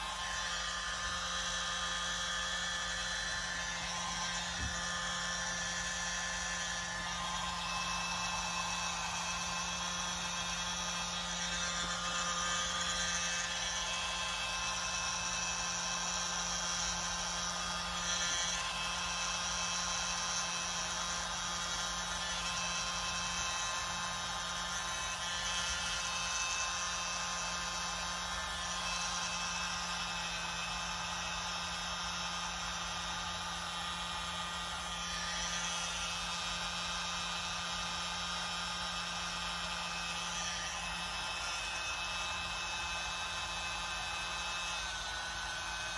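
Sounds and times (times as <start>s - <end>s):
mini blower motor whirring: 0.0s - 45.9s.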